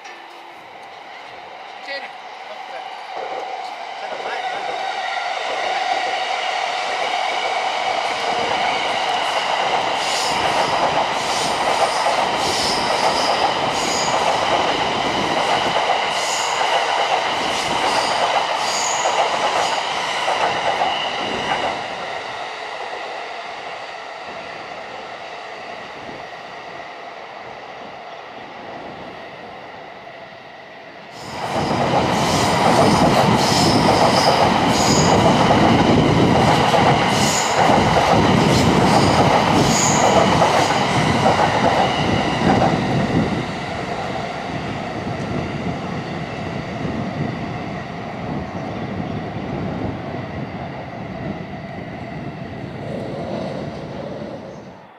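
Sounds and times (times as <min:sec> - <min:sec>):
trains running past: 0:00.0 - 0:54.9.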